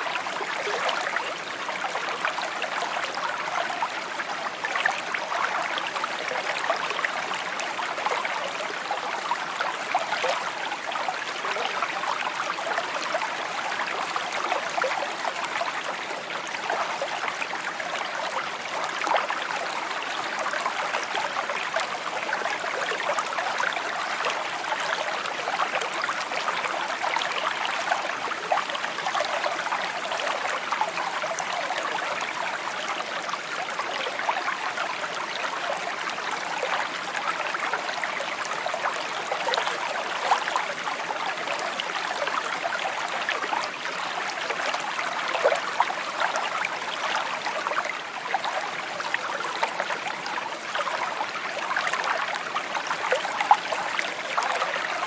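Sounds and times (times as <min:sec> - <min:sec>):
stream trickling and burbling: 0:00.0 - 0:55.0.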